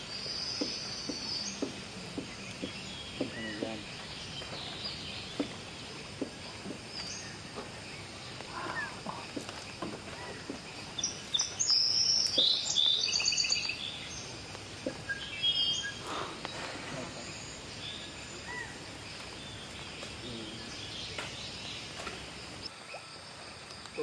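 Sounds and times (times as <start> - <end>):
birds chattering: 0.0 - 23.0
steady background hiss: 0.0 - 24.0.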